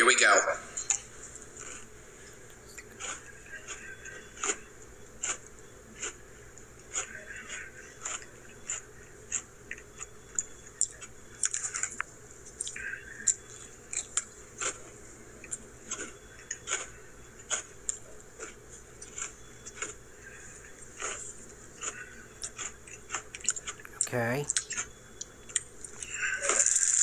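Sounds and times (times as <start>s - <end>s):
person crunching cookies: 1.4s - 23.9s, 24.5s - 27.0s.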